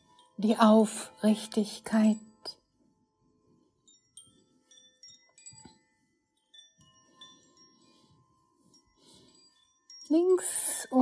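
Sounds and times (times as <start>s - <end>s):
faint chime tones: 0.0s - 11.0s.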